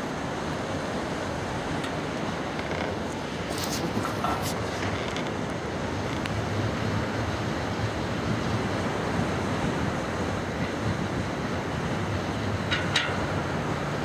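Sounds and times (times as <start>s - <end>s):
ocean surf roaring: 0.0s - 14.0s
wind buffeting microphone: 0.0s - 14.0s.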